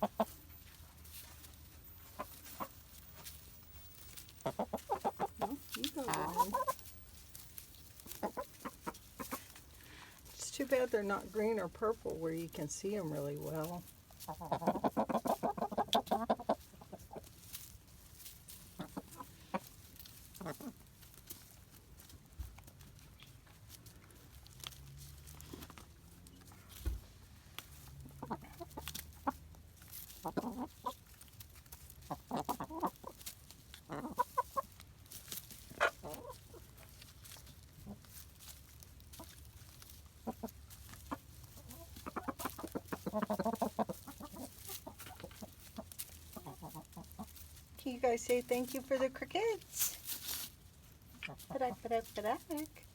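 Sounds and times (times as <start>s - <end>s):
hens clucking: 0.0s - 24.1s, 27.6s - 52.9s.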